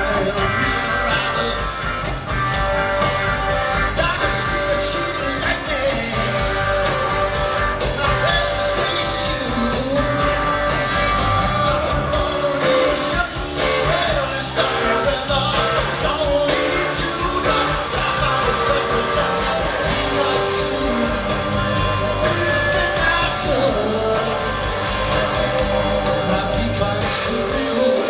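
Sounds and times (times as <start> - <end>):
person singing: 0.0 - 2.1, 3.9 - 6.8, 8.0 - 28.0
live rock band playing: 0.0 - 28.0.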